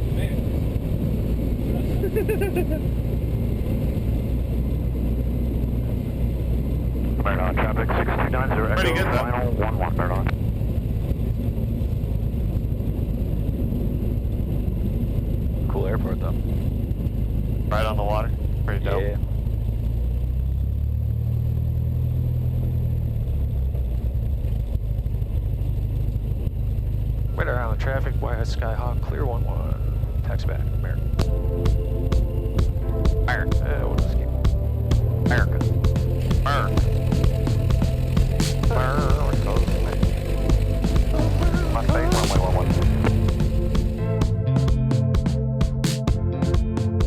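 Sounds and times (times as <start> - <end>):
airplane engine and propeller droning: 0.0 - 47.0.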